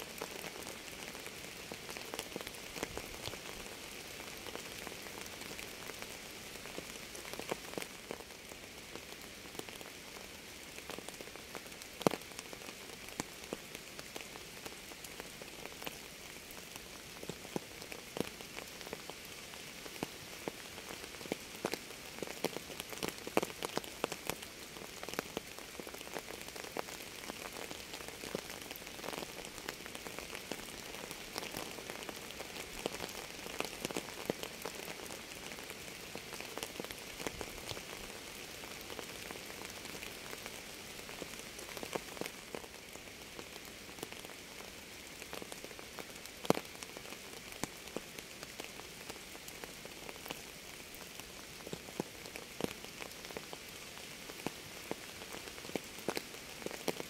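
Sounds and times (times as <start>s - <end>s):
rain drops ticking: 0.0s - 57.0s
rain hiss: 0.0s - 57.0s.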